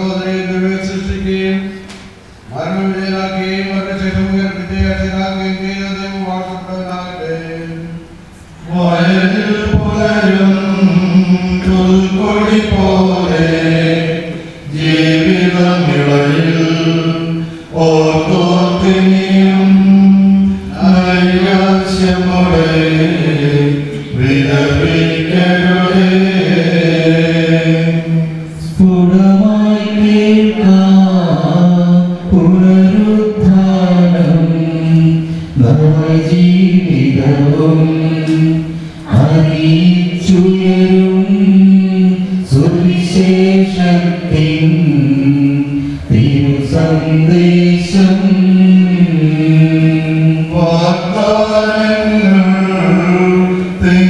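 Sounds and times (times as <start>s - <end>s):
man chanting a prayer: 0.0s - 54.0s.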